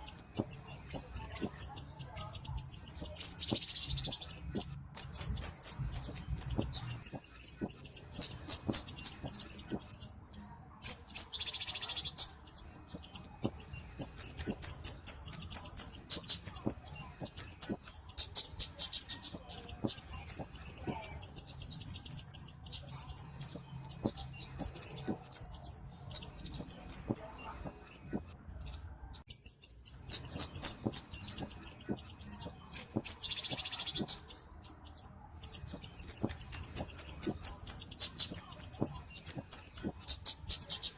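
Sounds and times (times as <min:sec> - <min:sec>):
bird calling with rapid ticking notes: 0:00.0 - 0:40.9.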